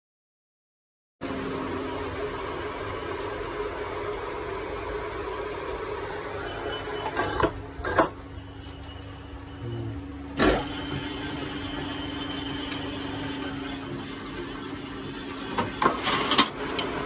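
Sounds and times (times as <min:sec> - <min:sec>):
metal lathe humming: 0:01.6 - 0:17.0.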